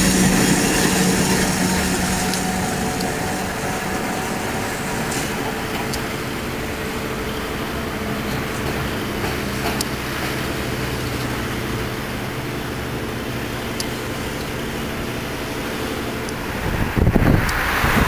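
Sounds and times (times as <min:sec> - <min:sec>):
street traffic: 0:00.0 - 0:18.0
wind buffeting microphone: 0:00.0 - 0:18.0.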